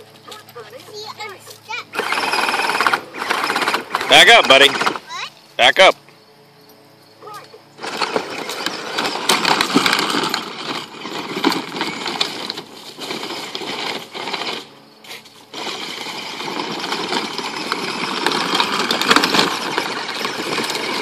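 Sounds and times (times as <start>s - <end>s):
toy car motors whirring: 0.0s - 5.9s, 7.2s - 21.0s
plastic wheels rattling: 0.1s - 5.2s, 7.8s - 21.0s.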